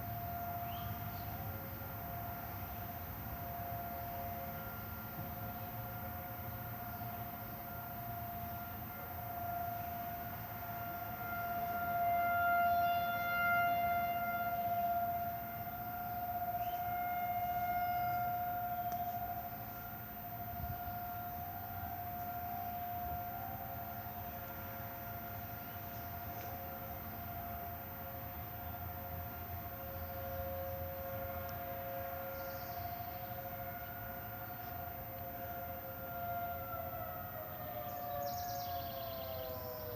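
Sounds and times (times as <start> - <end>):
lower siren tone: 0.0 - 39.9
tornado warning sirens: 0.0 - 39.9.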